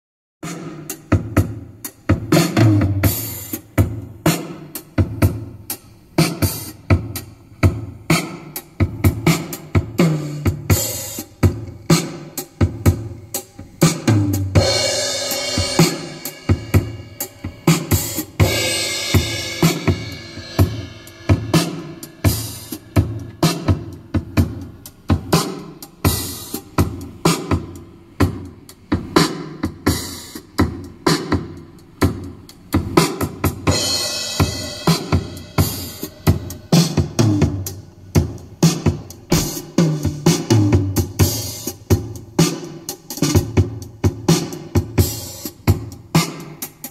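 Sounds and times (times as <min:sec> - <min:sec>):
drum-led music in a car: 0:00.4 - 0:46.9.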